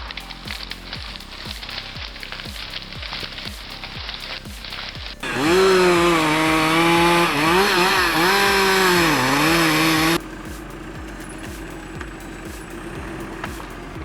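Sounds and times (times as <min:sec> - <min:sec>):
hissing sizzling noise: 0:00.0 - 0:14.0
chainsaw engine running: 0:00.5 - 0:14.0.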